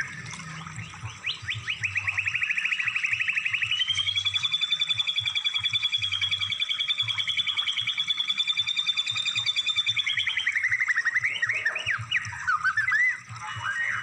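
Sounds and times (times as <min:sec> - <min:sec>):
songbird trilling and whistling: 0:00.0 - 0:14.0.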